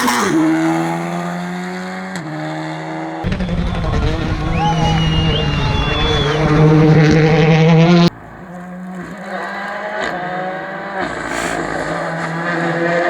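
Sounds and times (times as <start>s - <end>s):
rally car engine revving: 0.0s - 5.1s, 6.2s - 13.0s
rally car engine accelerating: 0.0s - 13.0s.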